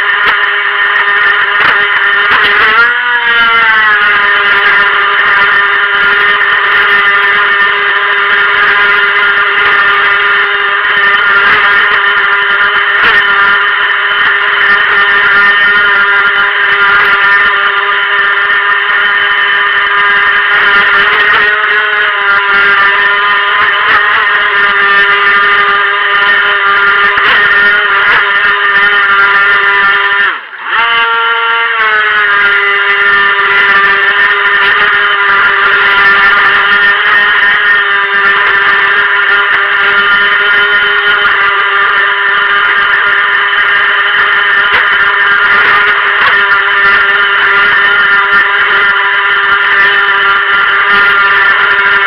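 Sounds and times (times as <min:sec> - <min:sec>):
electric motor whining: 0:00.0 - 0:52.0.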